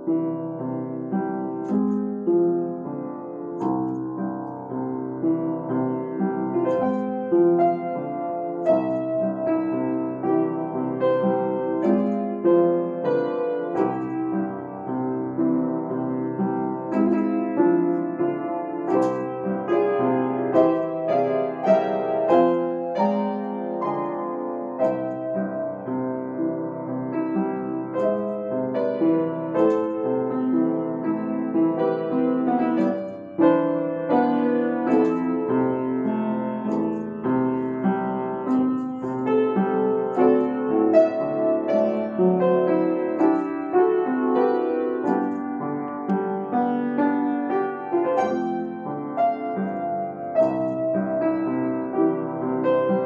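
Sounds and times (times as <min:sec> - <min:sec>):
upright piano playing: 0:00.0 - 0:53.0.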